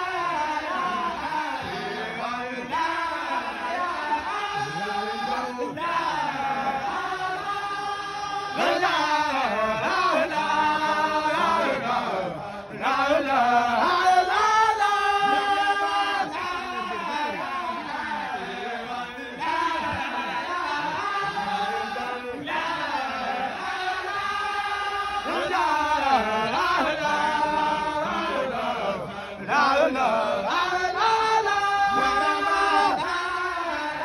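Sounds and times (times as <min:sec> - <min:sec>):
men chanting together: 0:00.0 - 0:34.0.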